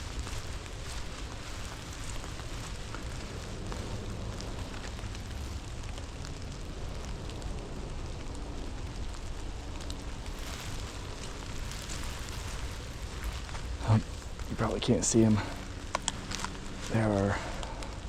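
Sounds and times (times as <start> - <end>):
low rumble: 0.0 - 18.0
raindrops ticking near microphone: 0.0 - 18.0
steady rain: 0.0 - 18.0.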